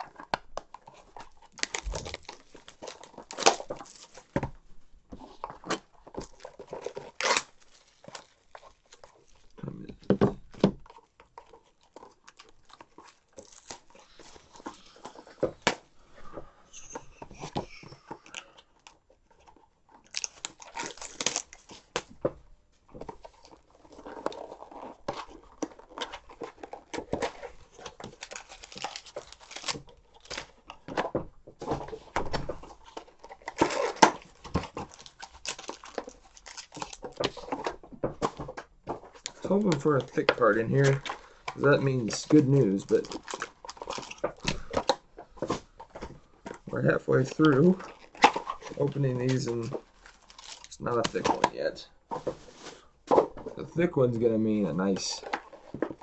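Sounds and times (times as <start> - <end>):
wrappers torn and crinkled: 0.0 - 4.3, 5.2 - 9.9, 10.8 - 15.5, 16.8 - 22.2, 23.2 - 53.7
cards rustling: 5.1 - 22.3, 22.9 - 56.0.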